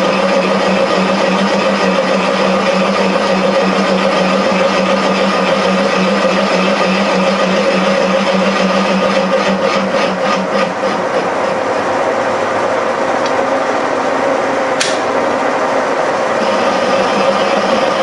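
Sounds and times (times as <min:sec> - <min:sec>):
boring bar cutting hum: 0:00.0 - 0:18.0
milling machine whine: 0:00.0 - 0:18.0.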